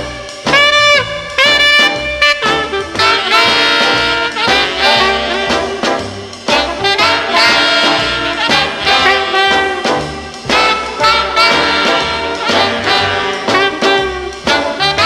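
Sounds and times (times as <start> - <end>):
brass-led swing dance band: 0.0 - 15.0.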